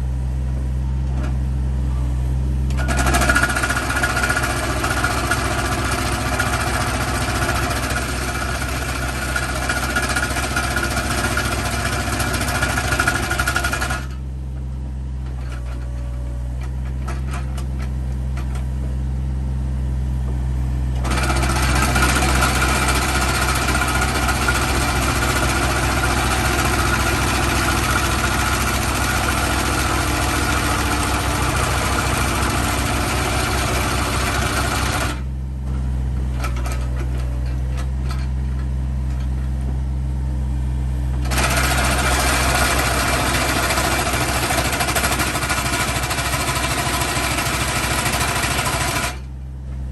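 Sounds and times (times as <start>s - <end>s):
diesel engine humming: 0.0s - 49.9s.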